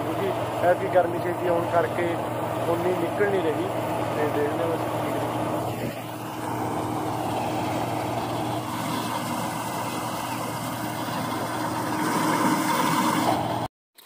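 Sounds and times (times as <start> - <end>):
combine harvester drone: 0.0 - 13.7.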